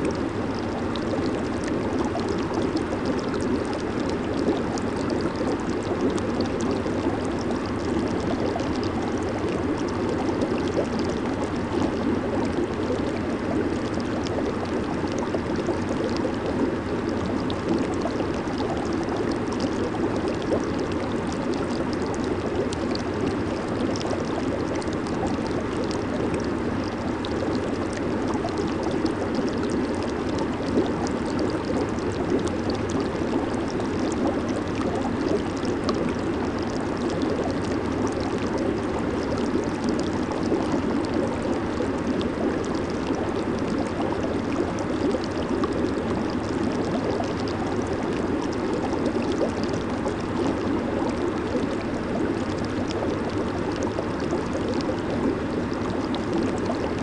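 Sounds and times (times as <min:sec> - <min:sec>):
hot tub water churning and bubbling: 0:00.0 - 0:57.0.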